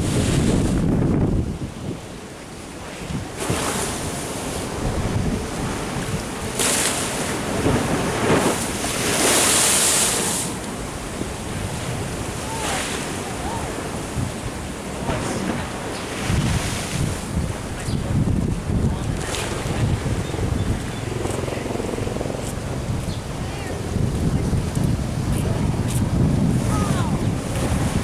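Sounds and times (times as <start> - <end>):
wind buffeting microphone: 0.0 - 2.2, 3.0 - 28.0
ocean waves surging: 2.1 - 28.0.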